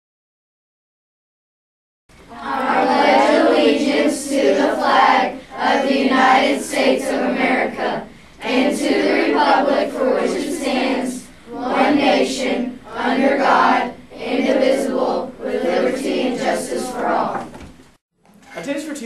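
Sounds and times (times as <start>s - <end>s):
children and teacher reciting in unison: 2.2s - 17.8s.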